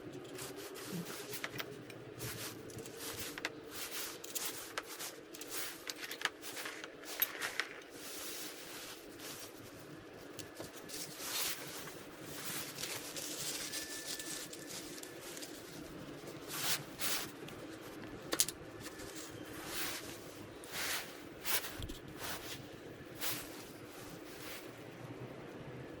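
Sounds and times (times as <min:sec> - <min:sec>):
tools and metal parts handled: 0:00.0 - 0:24.8.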